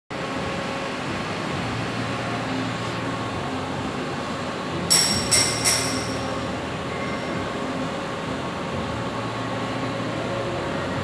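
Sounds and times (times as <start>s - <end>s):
workshop machinery hum: 0.1s - 11.0s.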